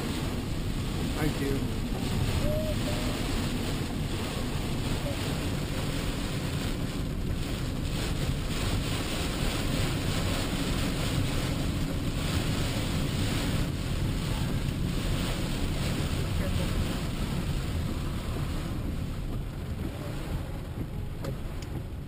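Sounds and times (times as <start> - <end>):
rain on windshield: 0.0 - 22.0
tyres on wet road: 0.0 - 22.0.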